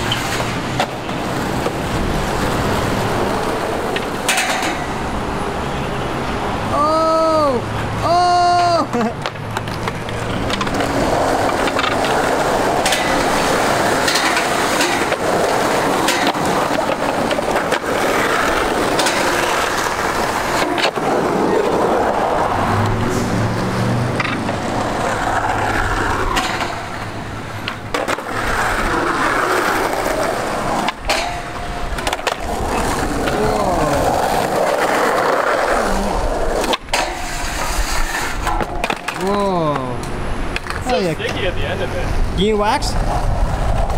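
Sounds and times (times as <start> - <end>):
skateboard popping and landing: 0.0 - 5.2, 8.6 - 23.0, 24.1 - 41.4
skateboard trucks grinding on rails: 0.0 - 6.4, 8.0 - 42.2, 42.9 - 43.9
skateboard wheels rolling: 0.0 - 43.9.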